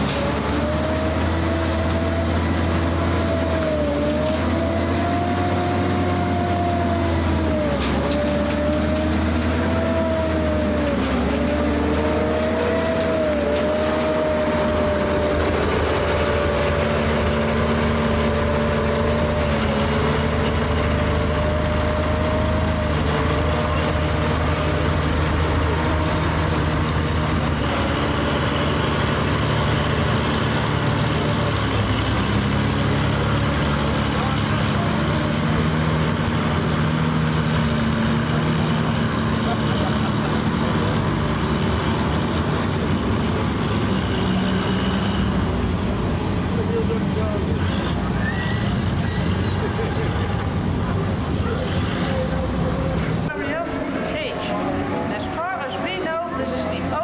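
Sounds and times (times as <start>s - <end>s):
tank engine humming: 0.0s - 57.0s.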